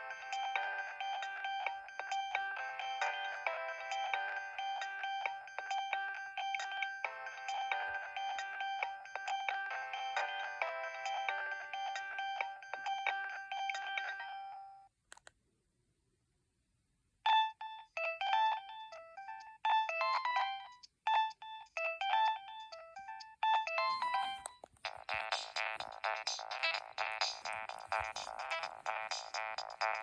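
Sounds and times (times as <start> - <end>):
phone ringtone melody: 0.0 - 14.9, 17.3 - 30.0.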